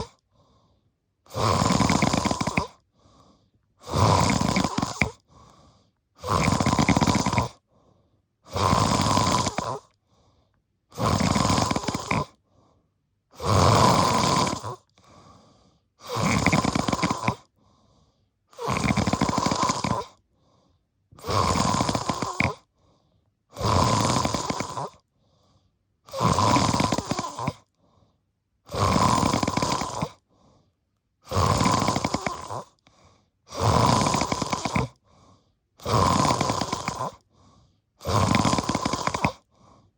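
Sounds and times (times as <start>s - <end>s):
deep snoring: 0.0s - 12.7s, 13.3s - 39.9s.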